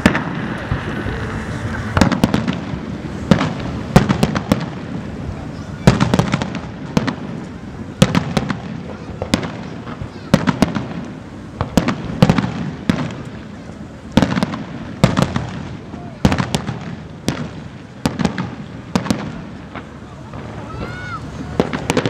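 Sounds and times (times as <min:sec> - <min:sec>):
fireworks shells bursting: 0:00.0 - 0:05.2, 0:05.8 - 0:22.0.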